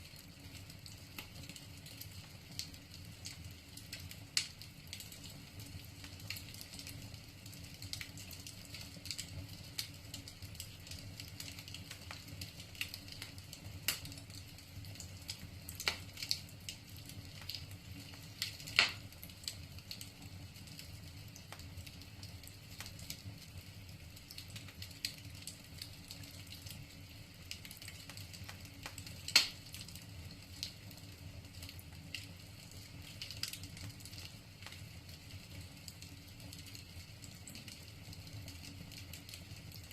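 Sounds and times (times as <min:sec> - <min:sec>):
loud fire snaps: 0:00.0 - 0:39.9
wood fire crackling: 0:00.0 - 0:39.9.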